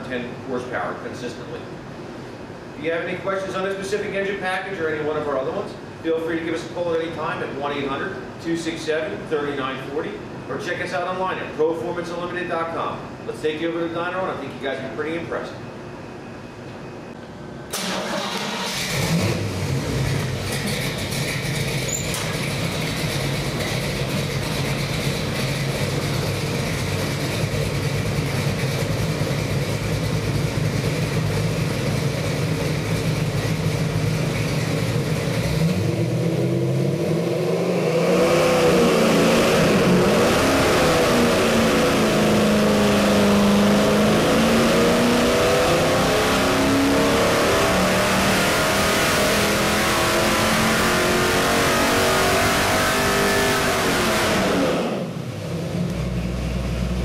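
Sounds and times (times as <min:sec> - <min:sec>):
engine idling and revving on dyno: 0:00.0 - 0:16.2, 0:17.6 - 0:57.0.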